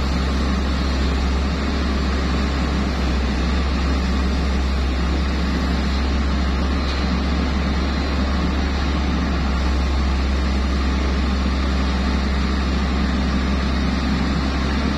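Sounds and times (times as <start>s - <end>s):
excavator diesel engine drone: 0.0s - 14.9s.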